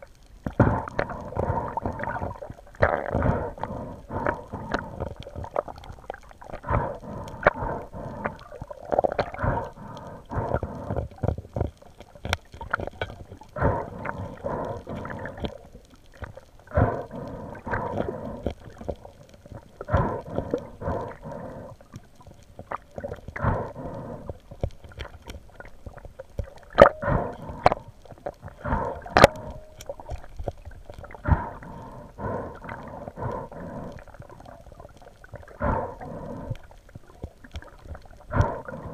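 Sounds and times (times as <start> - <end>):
underwater swooshes and gurgles: 0.0 - 38.9.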